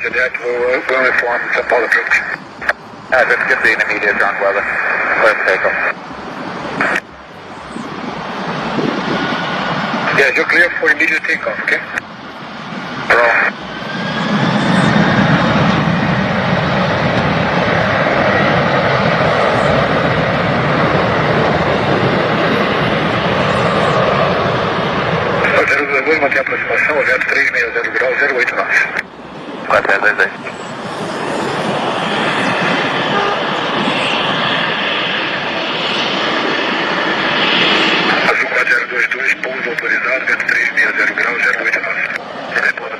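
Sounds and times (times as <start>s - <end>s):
aircraft engine at takeoff power: 0.0s - 42.9s
faint rising whine: 0.0s - 42.9s.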